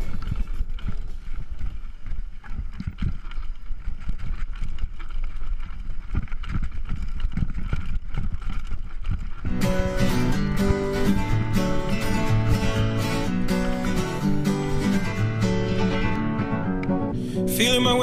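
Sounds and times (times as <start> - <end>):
mountain bike on rocky trail: 0.0 - 18.0.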